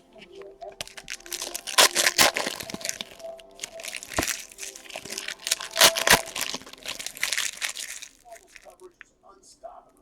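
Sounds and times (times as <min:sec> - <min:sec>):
card pack wrappers tearing: 0:00.2 - 0:08.9.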